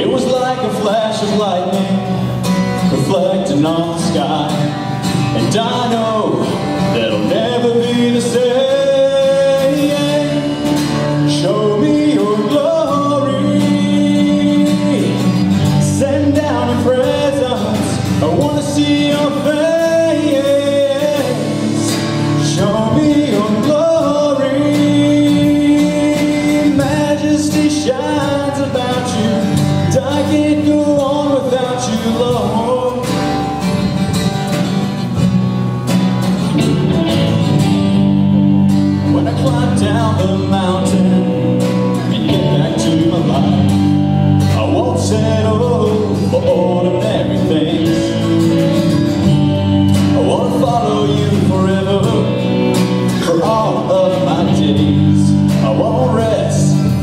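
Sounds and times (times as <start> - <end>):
man singing: 0.0 - 35.1, 38.8 - 57.0
drums: 0.0 - 57.0
strummed acoustic guitar: 0.0 - 57.0.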